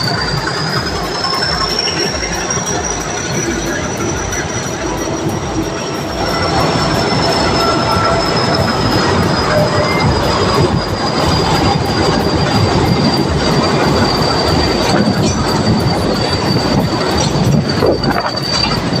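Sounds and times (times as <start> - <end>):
train rumbling clatter: 0.0 - 19.0
wheels squealing on rails: 0.0 - 19.0.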